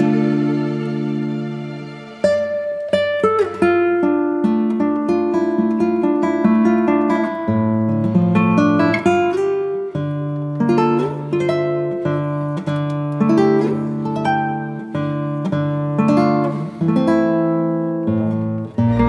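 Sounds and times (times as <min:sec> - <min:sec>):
acoustic guitar strummed and plucked: 0:00.0 - 0:19.0.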